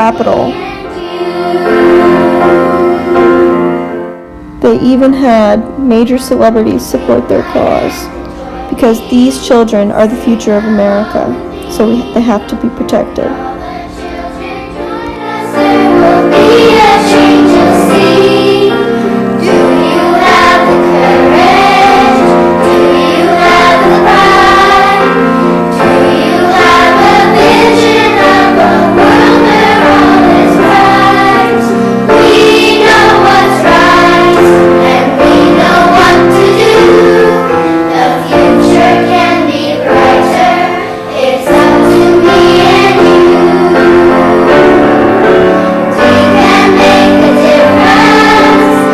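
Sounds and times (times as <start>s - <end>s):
choir singing over held chords: 0.0s - 48.9s.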